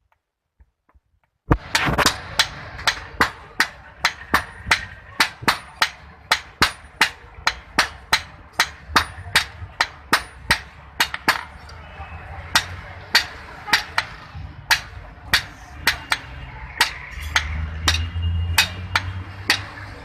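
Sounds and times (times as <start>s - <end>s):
hammer on hot iron on anvil: 1.5s - 11.6s, 12.4s - 20.0s.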